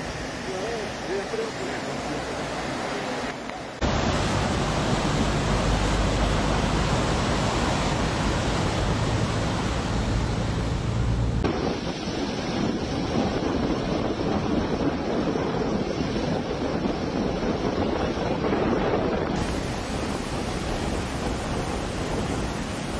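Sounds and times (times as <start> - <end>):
floodwater rushing: 0.0 - 22.9
water streaming across road: 0.0 - 22.9
wind on microphone: 3.8 - 22.9.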